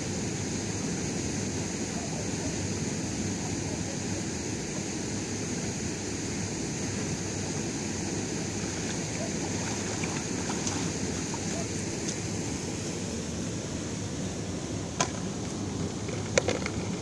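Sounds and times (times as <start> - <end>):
lake water: 0.0 - 17.0
wind: 0.0 - 17.0.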